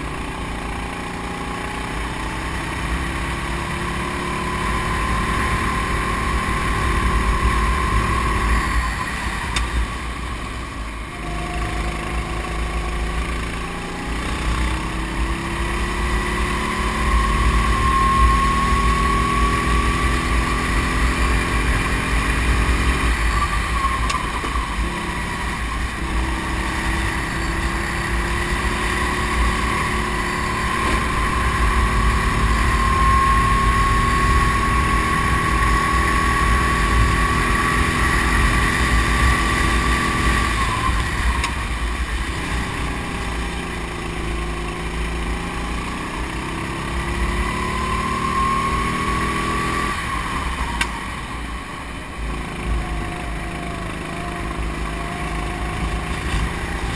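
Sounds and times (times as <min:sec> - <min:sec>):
go-kart engine at speed: 0:00.0 - 0:56.9.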